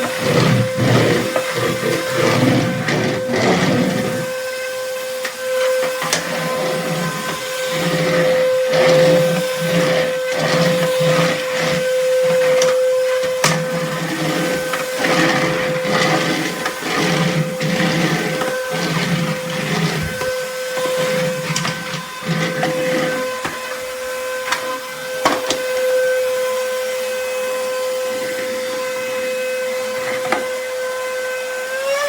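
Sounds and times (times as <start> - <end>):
stick vacuum cleaner whining: 0.0 - 32.0.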